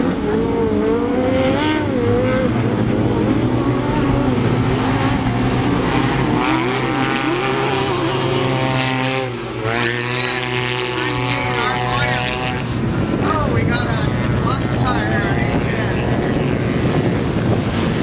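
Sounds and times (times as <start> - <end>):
buggy engines revving: 0.0 - 18.0.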